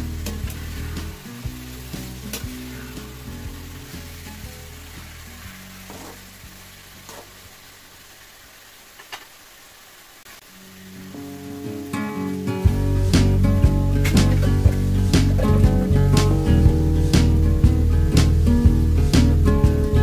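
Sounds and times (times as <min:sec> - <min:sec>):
meat sizzling in a wok: 0:00.0 - 0:20.0.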